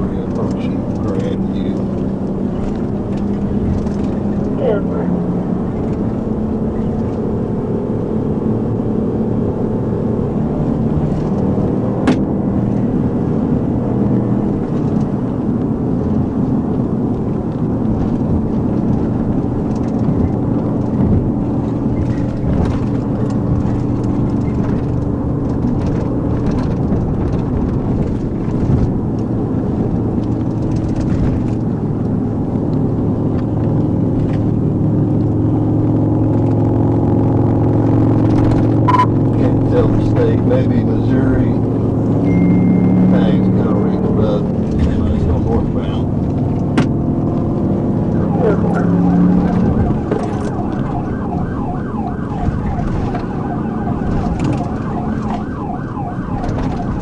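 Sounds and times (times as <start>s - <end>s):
car engine drone: 0.0s - 57.0s
road and tyre noise: 0.0s - 57.0s.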